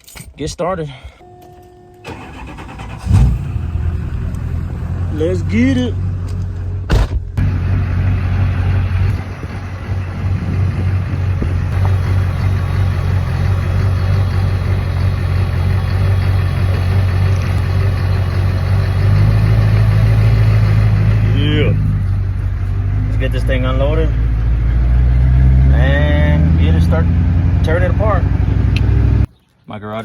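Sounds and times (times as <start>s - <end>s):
truck engine running: 1.6s - 29.3s.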